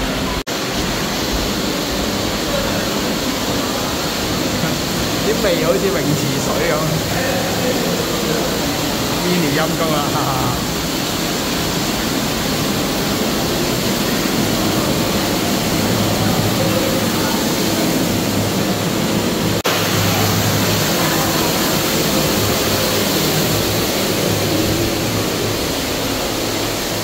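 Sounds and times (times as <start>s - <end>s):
shallow water rushing: 0.0s - 27.0s.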